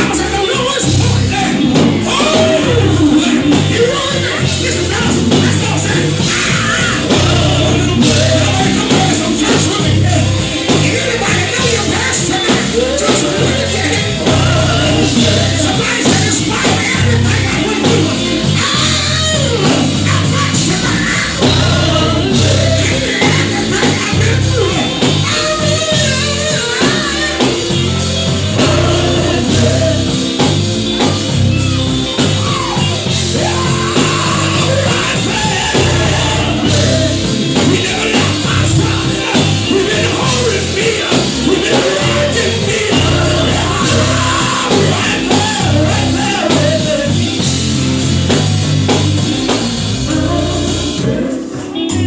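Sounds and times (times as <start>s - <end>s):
full band playing: 0.0s - 52.0s
gospel group singing: 0.0s - 52.0s
lead singer: 0.0s - 52.0s
strong bass line: 0.0s - 52.0s.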